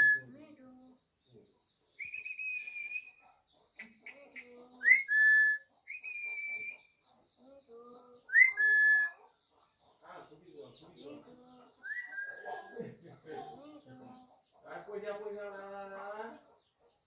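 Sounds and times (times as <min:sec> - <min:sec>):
faint high chirping: 0:00.0 - 0:17.0.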